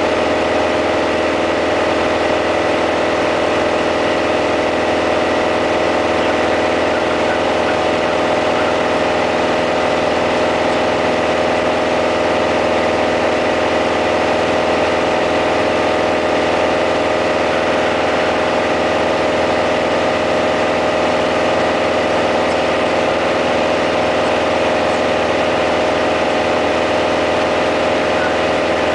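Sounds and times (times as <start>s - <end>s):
aircraft engine and propeller: 0.0s - 28.9s.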